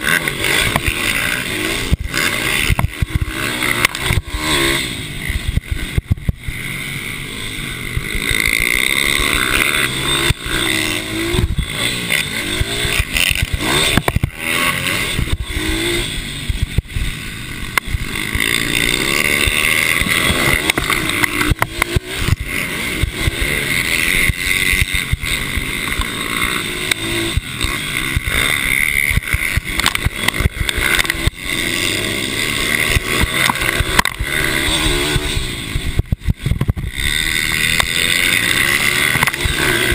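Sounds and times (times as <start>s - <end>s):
racing motorcycle engines: 0.0s - 39.9s.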